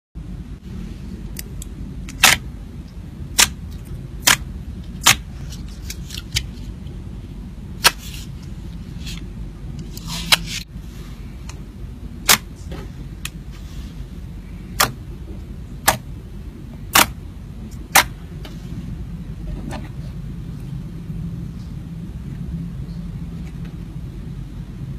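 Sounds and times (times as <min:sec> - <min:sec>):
low background rumble: 0:00.2 - 0:24.9.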